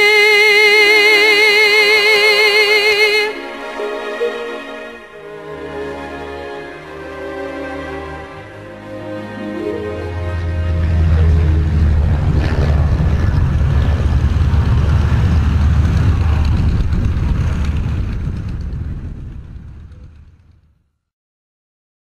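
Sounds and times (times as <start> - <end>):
propeller plane engine drone: 0.0 - 20.8.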